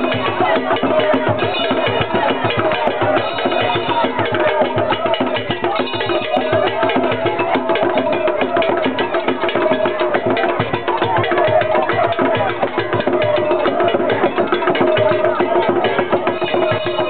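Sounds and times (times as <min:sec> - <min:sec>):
fast percussion drumming: 0:00.0 - 0:17.0
voices: 0:00.0 - 0:17.0.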